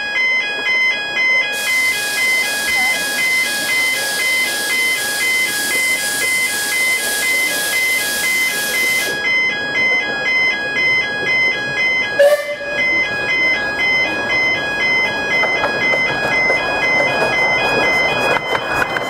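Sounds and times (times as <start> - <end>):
synthesized melody of held notes: 0.0 - 19.0.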